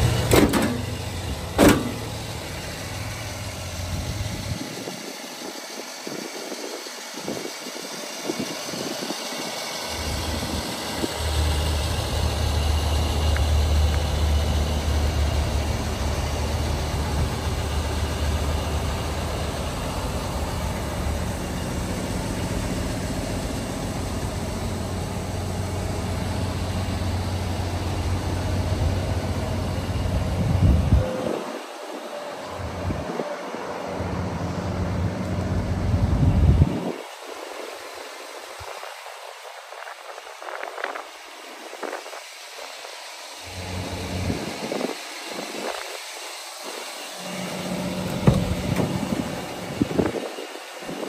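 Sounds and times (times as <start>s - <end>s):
truck engine idling: 0.0s - 38.7s, 43.1s - 51.0s.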